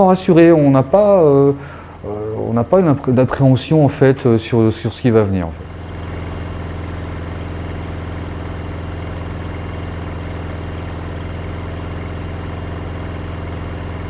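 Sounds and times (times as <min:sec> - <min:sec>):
light aircraft engine droning: 0:00.0 - 0:14.0.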